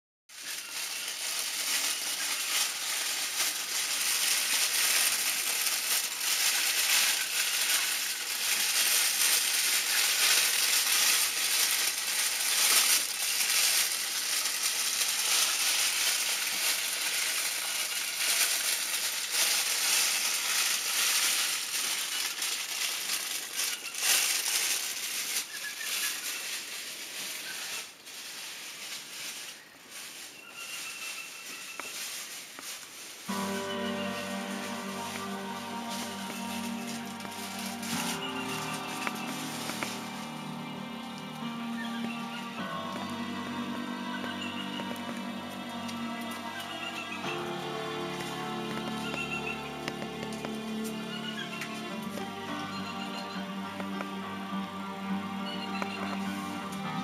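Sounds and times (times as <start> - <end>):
crackling noise music hiss: 0.3 - 57.0.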